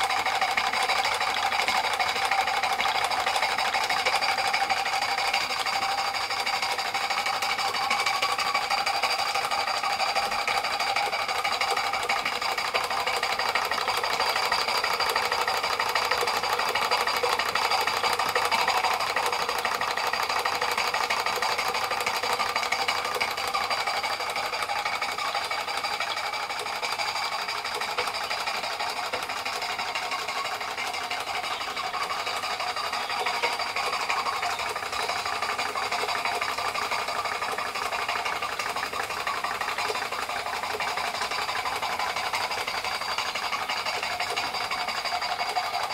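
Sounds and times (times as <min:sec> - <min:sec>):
steam engine clattering: 0:00.0 - 0:45.9.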